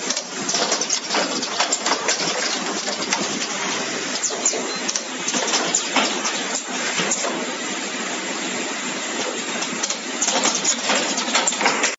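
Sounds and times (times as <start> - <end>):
wire crimping machine clattering: 0.0 - 7.4, 9.2 - 11.9.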